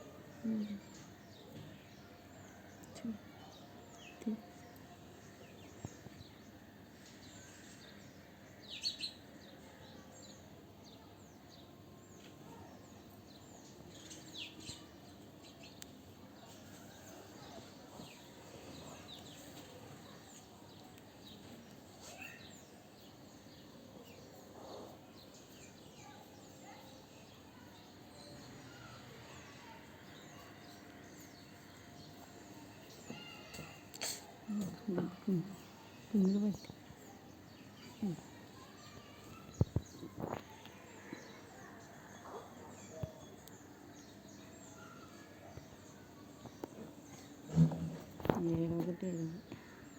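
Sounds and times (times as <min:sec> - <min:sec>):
faint background hum: 0:00.0 - 0:49.9.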